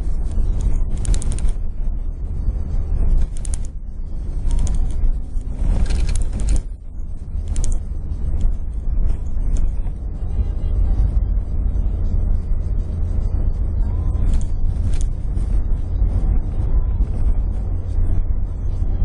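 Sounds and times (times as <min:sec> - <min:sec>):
rattling and clatter over bumps: 0:00.0 - 0:19.0
vehicle engine and road rumble: 0:00.0 - 0:19.0.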